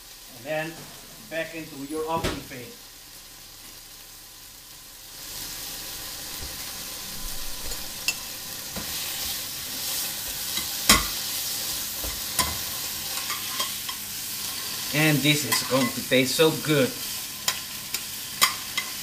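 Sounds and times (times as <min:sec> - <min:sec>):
bacon sizzling in a frying pan: 0:00.0 - 0:19.0.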